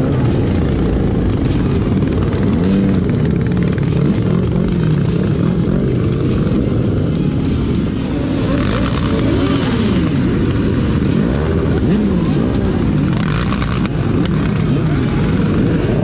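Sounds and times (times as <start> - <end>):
motorcycle engines revving: 0.0 - 16.0
wind and road rush: 0.0 - 16.0.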